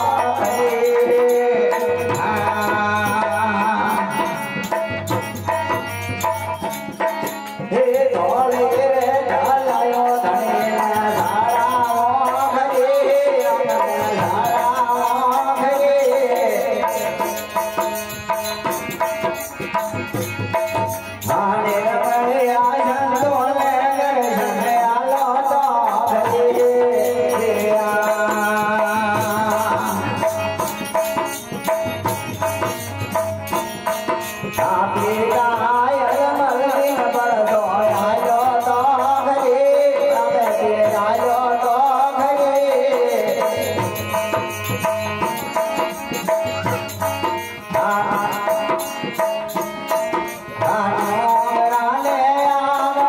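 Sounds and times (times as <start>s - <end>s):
hand percussion beat: 0.0s - 53.0s
harmonium: 0.0s - 53.0s
man singing devotional song: 0.0s - 53.0s.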